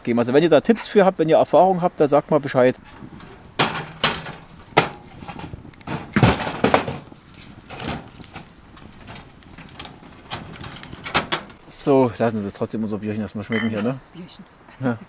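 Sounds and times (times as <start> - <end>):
wood fire crackling: 0.8 - 14.0.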